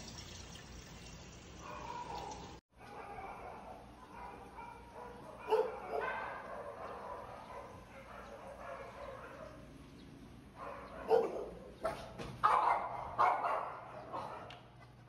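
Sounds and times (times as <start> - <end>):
dogs barking: 1.6 - 9.8, 10.5 - 14.8.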